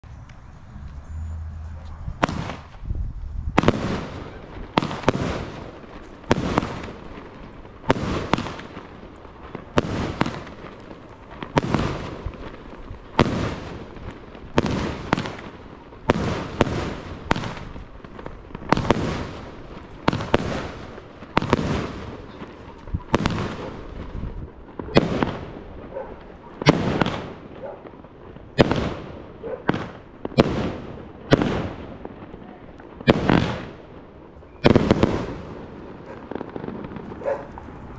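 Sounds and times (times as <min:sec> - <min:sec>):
firework cake bangs: 0:02.2 - 0:02.8, 0:03.5 - 0:25.6, 0:26.2 - 0:32.3, 0:32.9 - 0:37.9.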